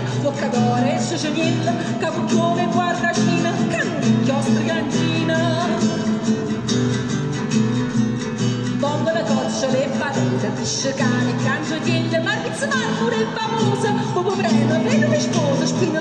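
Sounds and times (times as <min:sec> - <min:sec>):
person singing: 0:00.0 - 0:06.2, 0:08.7 - 0:16.0
plucked guitar: 0:00.0 - 0:16.0.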